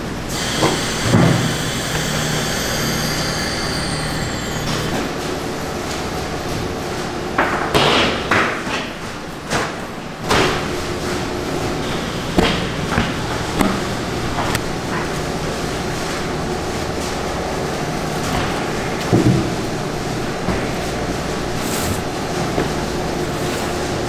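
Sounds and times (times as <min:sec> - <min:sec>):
machinery hum: 0:00.0 - 0:08.2, 0:09.0 - 0:24.0.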